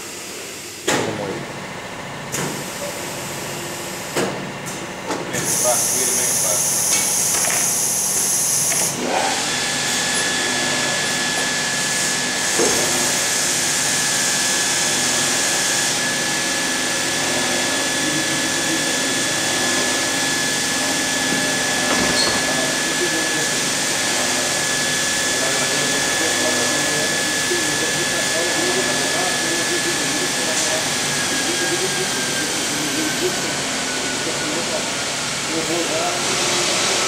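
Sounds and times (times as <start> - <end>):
mixer motor whine: 0.0 - 37.0.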